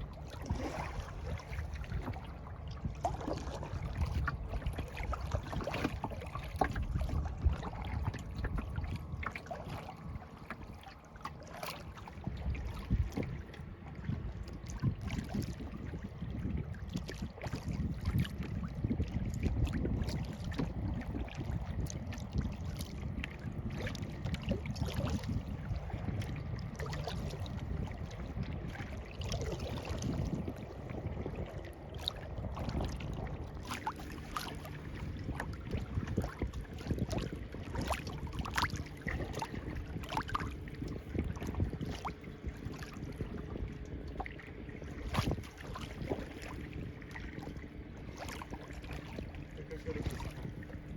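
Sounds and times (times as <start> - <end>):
paddle splashes and drips: 0.0 - 50.9
water lapping against hull: 0.0 - 50.9
wind rumble on microphone: 0.0 - 50.9.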